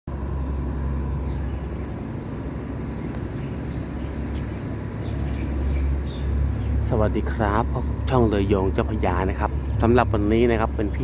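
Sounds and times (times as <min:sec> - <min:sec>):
boat diesel engine droning: 0:00.1 - 0:11.0.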